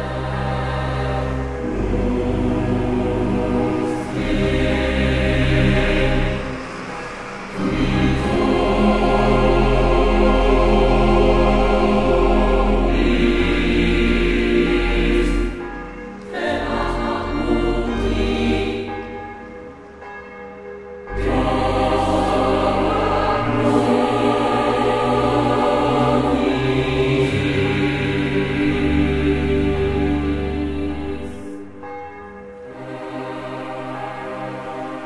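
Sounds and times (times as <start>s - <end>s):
choral music: 0.0s - 35.0s
church bells ringing: 0.0s - 35.0s.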